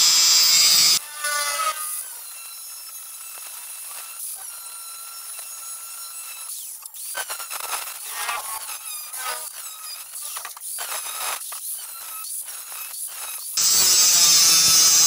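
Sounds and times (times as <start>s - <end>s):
angle grinder cutting sheet metal: 0.0s - 15.0s.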